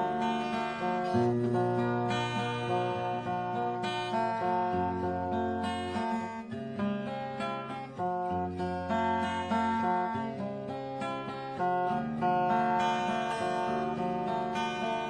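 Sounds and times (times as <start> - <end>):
acoustic guitar strumming and picking: 0.0 - 15.0.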